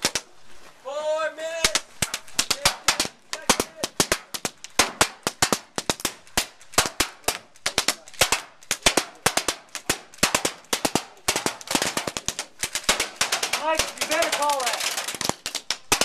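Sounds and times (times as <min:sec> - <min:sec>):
airsoft guns firing: 0:00.0 - 0:00.3, 0:01.6 - 0:16.0.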